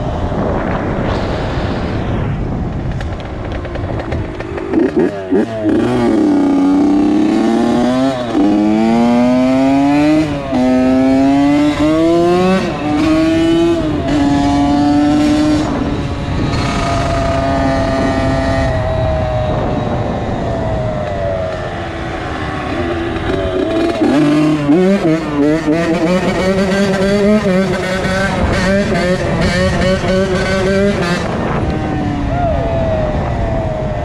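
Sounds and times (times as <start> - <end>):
two-stroke engine accelerating: 3.0 - 34.0.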